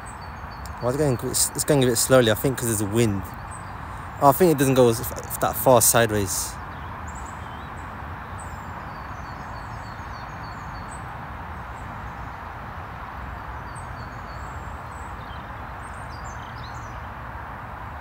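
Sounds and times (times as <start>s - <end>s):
small birds chirping: 0.0s - 12.5s, 13.4s - 17.1s.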